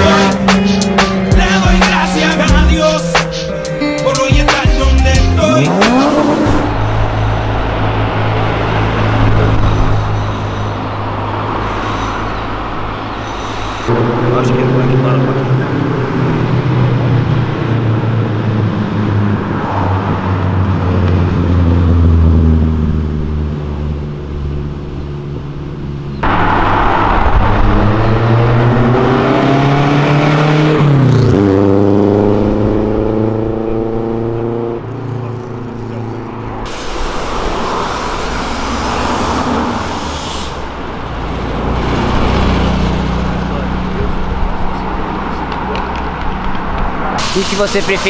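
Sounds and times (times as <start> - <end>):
passing traffic: 0.0 - 48.0.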